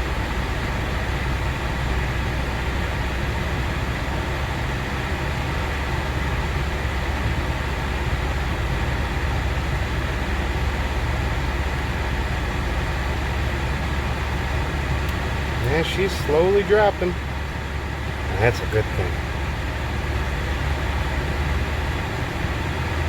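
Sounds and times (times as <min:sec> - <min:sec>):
air conditioning hiss: 0:00.0 - 0:23.0
car engine idling hum: 0:00.0 - 0:23.0.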